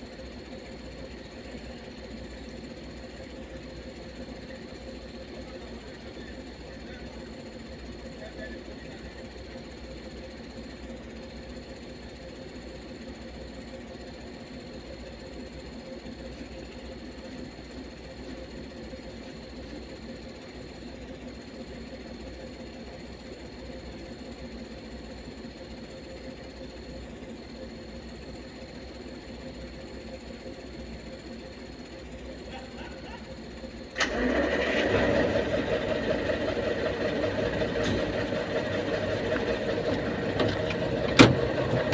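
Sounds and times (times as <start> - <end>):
heavy vehicle engine idling: 0.0 - 41.9.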